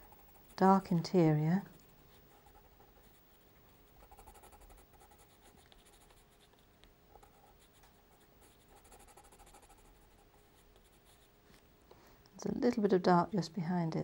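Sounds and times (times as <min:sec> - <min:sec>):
pencil scratching on paper: 0:00.0 - 0:11.4.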